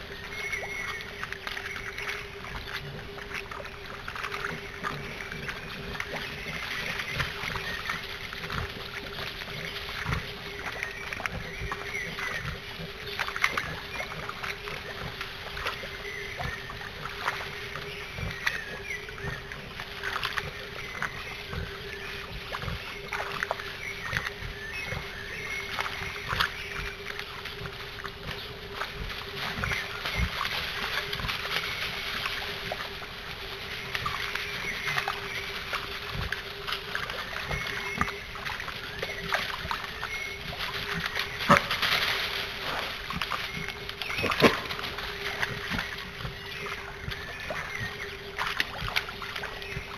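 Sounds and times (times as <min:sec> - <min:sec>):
water sloshing and splashing: 0:00.0 - 0:49.9.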